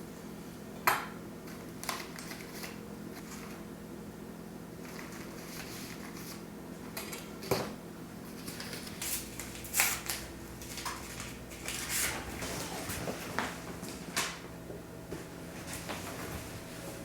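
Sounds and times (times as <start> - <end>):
steady low hum: 2.8 - 17.0.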